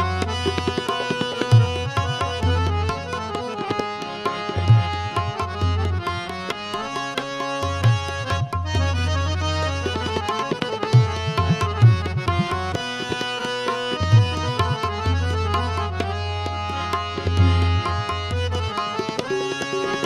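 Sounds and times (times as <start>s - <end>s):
instrumental music melody: 0.0s - 20.0s.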